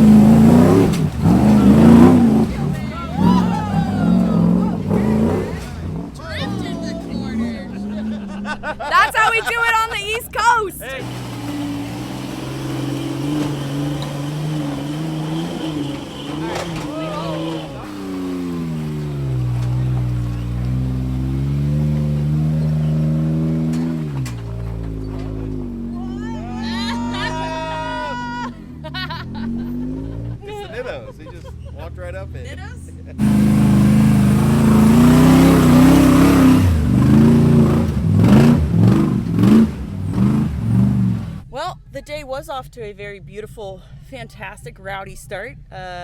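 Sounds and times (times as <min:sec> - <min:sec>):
engine pulling hard under load: 0:00.0 - 0:09.0, 0:10.4 - 0:30.9, 0:33.0 - 0:41.4.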